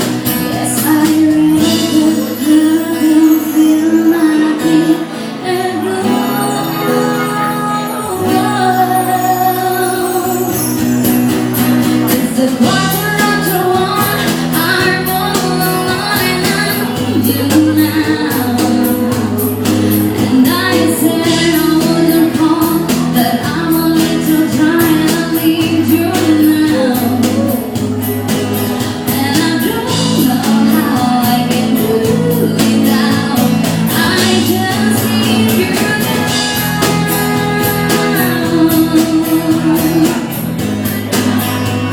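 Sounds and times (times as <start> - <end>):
person singing: 0.0 - 11.2, 11.9 - 41.9
ska band playing live: 0.0 - 41.9.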